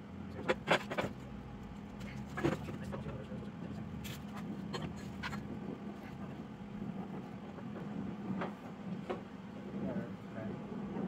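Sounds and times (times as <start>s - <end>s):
shop machinery hum: 0.0s - 11.0s.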